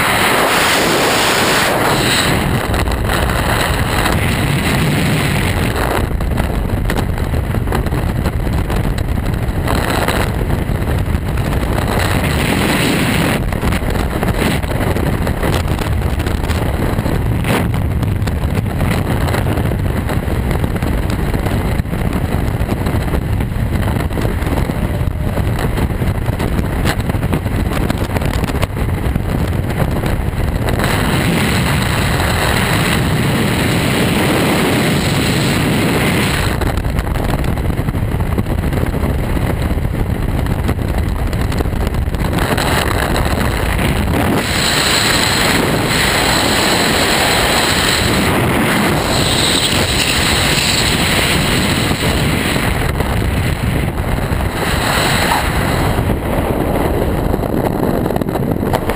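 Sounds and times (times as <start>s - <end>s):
freefall wind buffeting microphone: 0.0s - 58.9s.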